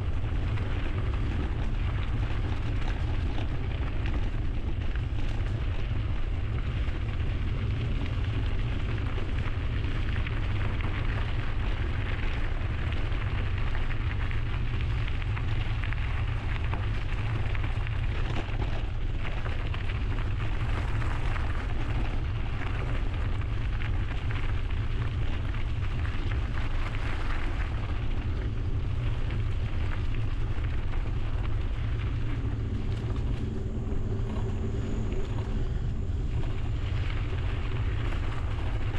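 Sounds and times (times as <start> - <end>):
bike tyres rushing on trail: 0.0 - 38.9
wind buffeting microphone: 0.0 - 38.9.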